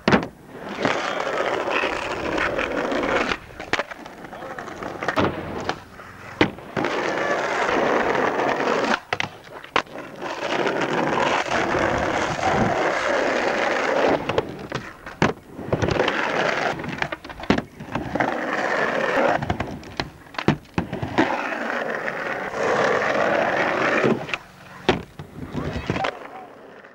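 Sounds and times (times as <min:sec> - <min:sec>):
skateboard clacks and slams: 0:00.0 - 0:07.4, 0:11.1 - 0:21.4, 0:22.5 - 0:26.4
skateboard wheels rolling: 0:00.0 - 0:26.9.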